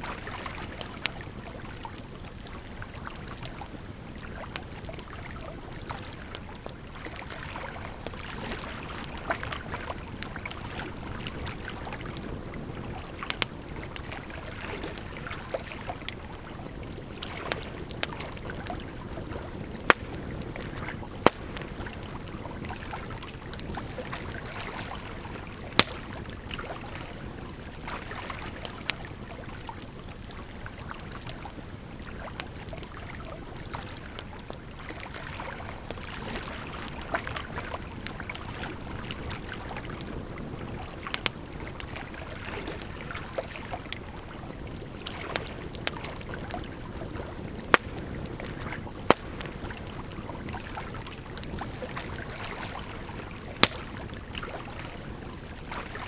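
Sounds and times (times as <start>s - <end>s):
firewood crackling and popping: 0.1s - 56.0s.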